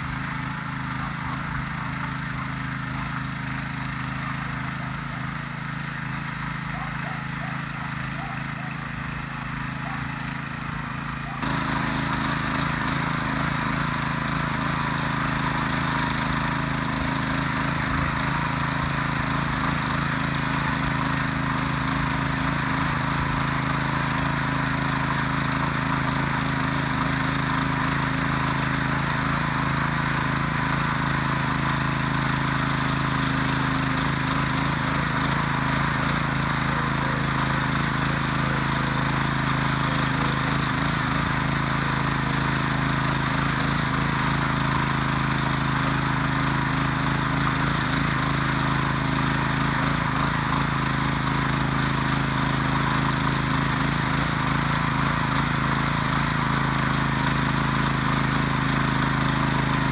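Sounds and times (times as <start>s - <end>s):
tiller tines churning soil: 0.0s - 59.9s.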